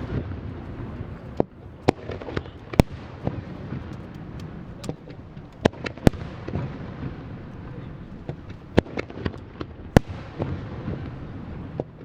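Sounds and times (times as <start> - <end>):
firework shells bursting: 0.0 - 12.0
low rumble of explosions: 0.0 - 12.0.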